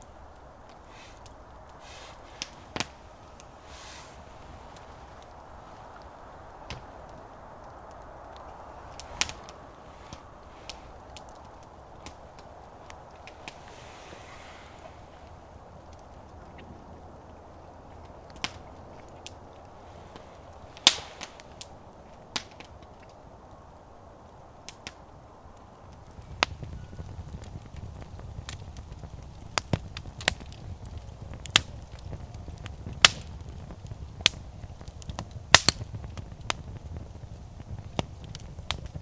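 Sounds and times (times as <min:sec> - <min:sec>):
low steady rumble: 0:00.0 - 0:39.0
wood fire crackling: 0:00.0 - 0:39.0.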